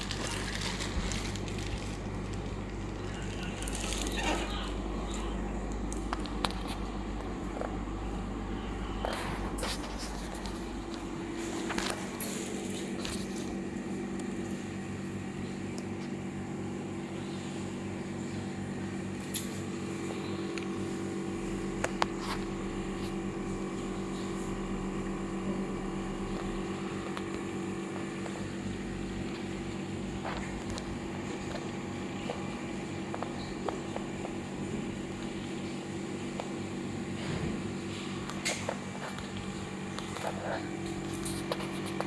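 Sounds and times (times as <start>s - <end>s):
machine hum: 0.0s - 42.0s.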